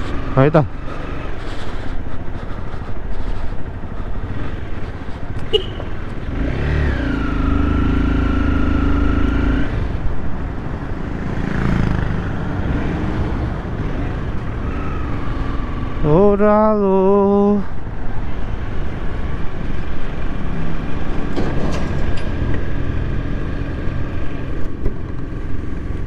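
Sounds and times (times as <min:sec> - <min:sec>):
motorcycle engine and road rumble: 0:00.0 - 0:26.0.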